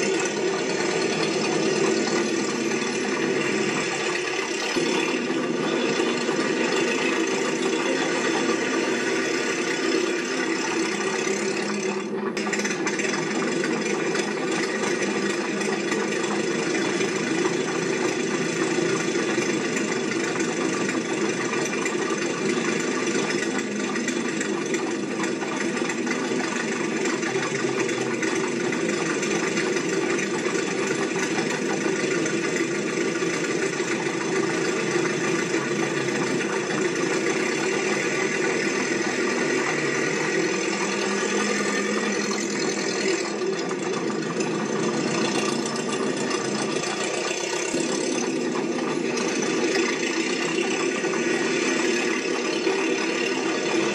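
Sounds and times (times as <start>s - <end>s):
mechanical running noise: 0.0s - 53.9s.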